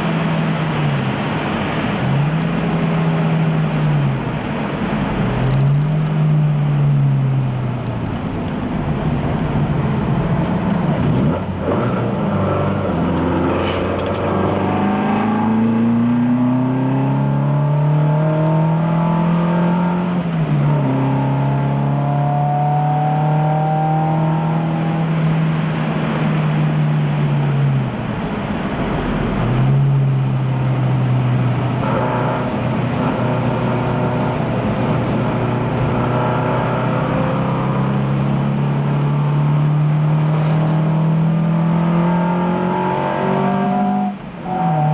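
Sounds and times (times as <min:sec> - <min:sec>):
racing car engine revving: 0:08.6 - 0:44.9.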